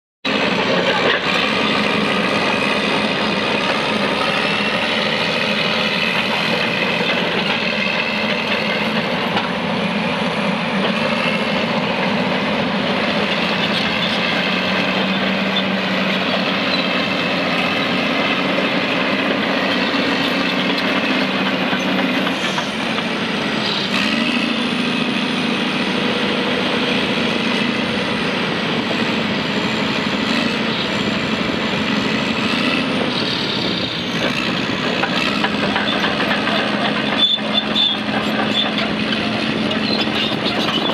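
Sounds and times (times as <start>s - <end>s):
dozer diesel engine running: 0.3s - 40.9s.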